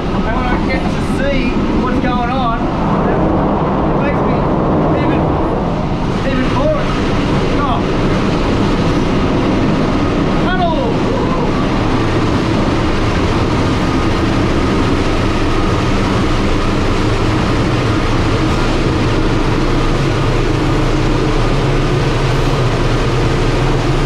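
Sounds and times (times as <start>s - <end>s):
low even drone: 0.0s - 24.0s
train wheels rumbling on rails: 0.0s - 24.0s.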